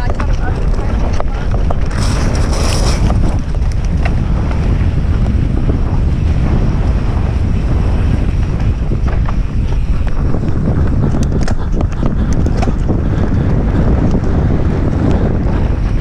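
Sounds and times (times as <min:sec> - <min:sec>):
bike clicks and rattles: 0:00.0 - 0:16.0
mountain bike rumbling on dirt: 0:00.0 - 0:16.0
wind buffeting microphone: 0:00.0 - 0:16.0.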